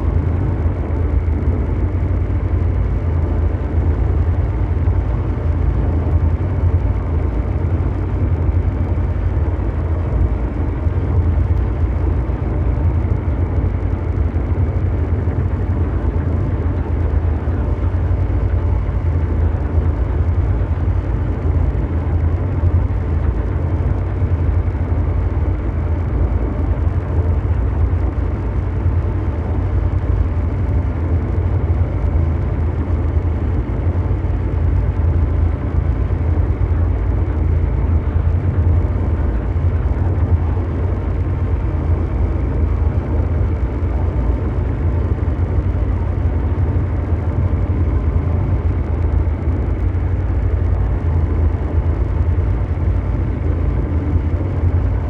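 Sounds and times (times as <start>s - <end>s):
deep mechanical drone: 0.0s - 55.0s
faint hum tones: 0.0s - 55.0s.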